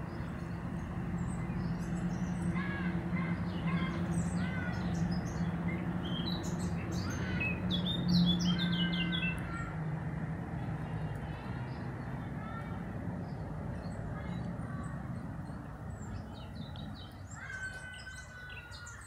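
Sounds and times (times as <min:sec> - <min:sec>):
garden birds chirping: 0:00.0 - 0:19.0
steady low hum: 0:00.0 - 0:19.0.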